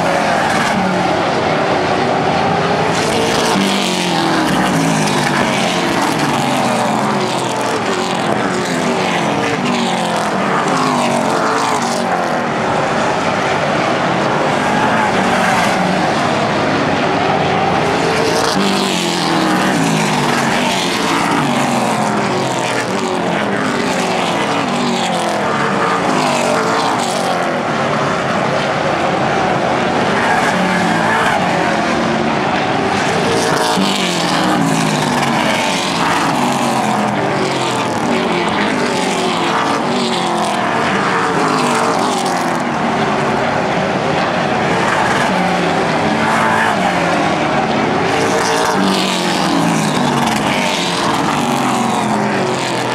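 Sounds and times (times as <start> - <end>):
race car engines passing: 0.0 - 52.9.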